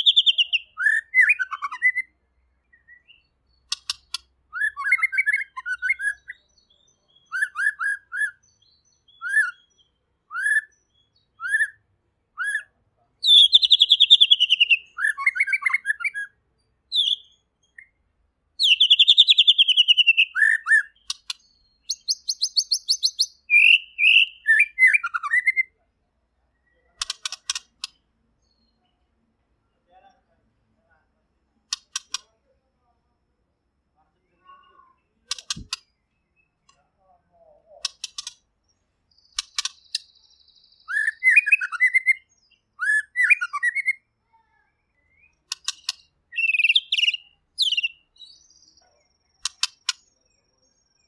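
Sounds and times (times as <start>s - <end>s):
bird singing varied song: 0.0s - 51.0s.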